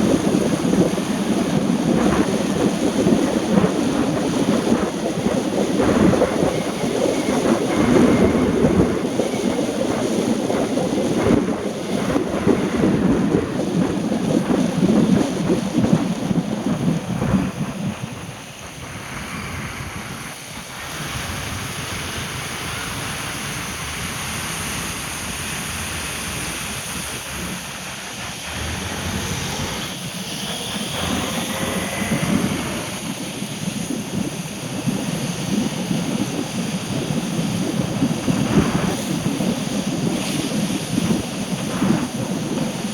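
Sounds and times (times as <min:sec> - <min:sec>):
rain: 0:00.0 - 0:42.9
traffic on wet roads: 0:00.0 - 0:42.9
wind buffeting microphone: 0:00.0 - 0:42.9.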